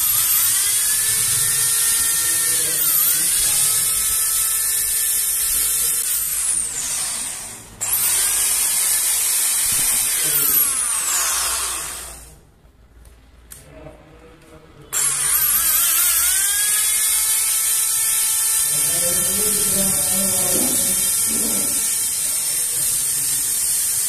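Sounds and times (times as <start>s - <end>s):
electric drill motor whining: 0.0s - 12.3s, 15.0s - 24.0s.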